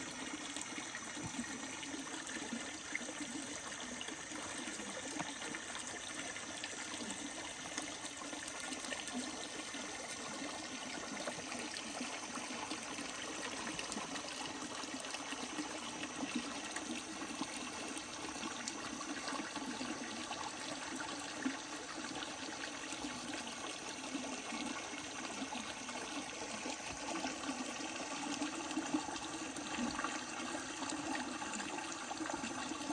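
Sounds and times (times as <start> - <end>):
running water rushing: 0.0 - 32.9.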